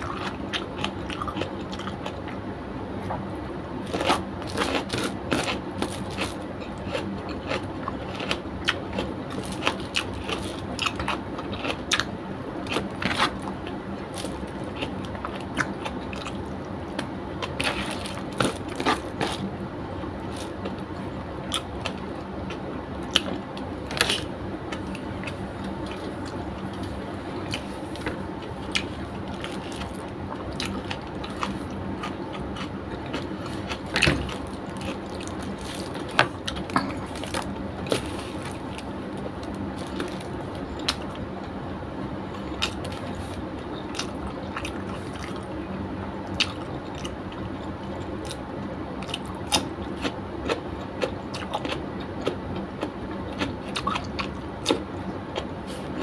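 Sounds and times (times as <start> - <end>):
person chewing: 0.0 - 2.4, 3.9 - 19.5, 20.2 - 41.2, 42.2 - 45.6, 46.3 - 48.4, 49.0 - 56.0
steady background hum: 0.0 - 56.0.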